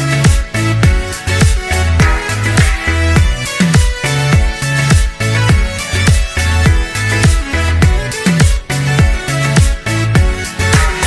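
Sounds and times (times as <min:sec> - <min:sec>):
held bass notes: 0:00.0 - 0:11.0
higher melodic tones: 0:00.1 - 0:11.0.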